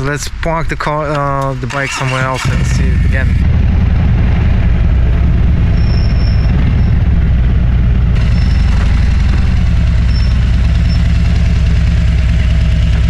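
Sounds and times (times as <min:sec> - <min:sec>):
motorcycle engine idling low: 0:01.2 - 0:13.0.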